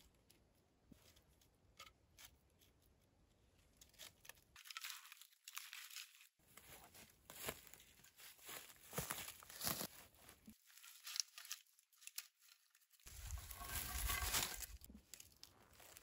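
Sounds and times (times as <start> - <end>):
wooden logs being handled: 0.1 - 16.0.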